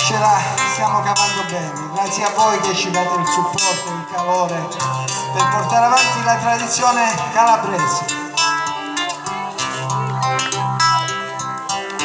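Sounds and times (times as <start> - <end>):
plucked acoustic guitars: 0.0 - 12.0
steady bass: 0.0 - 12.0.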